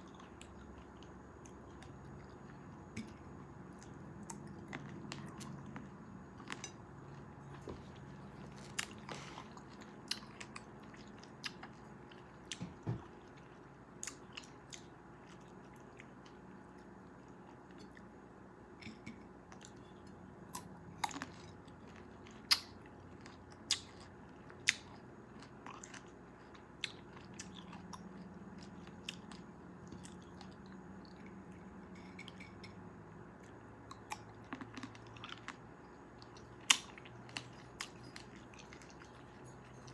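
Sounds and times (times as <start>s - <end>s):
person chewing: 0.1s - 18.0s, 18.8s - 32.8s, 33.4s - 35.6s.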